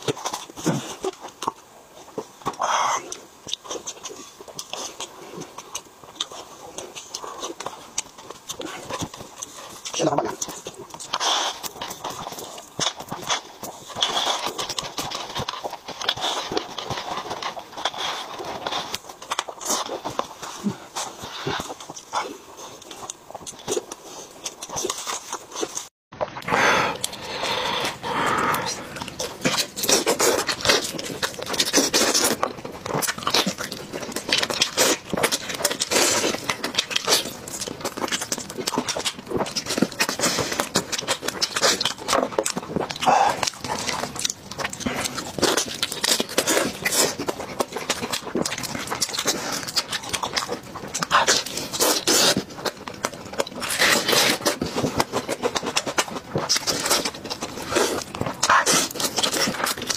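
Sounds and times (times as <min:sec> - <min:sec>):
mouth smacking: 0:00.0 - 0:59.9
person chewing: 0:00.0 - 0:59.9.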